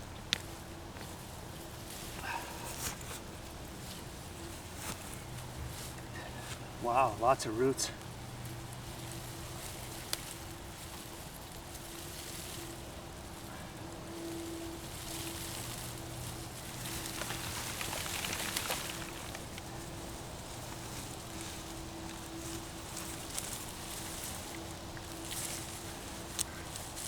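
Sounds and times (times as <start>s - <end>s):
plant and soil rustling: 0.4s - 27.0s.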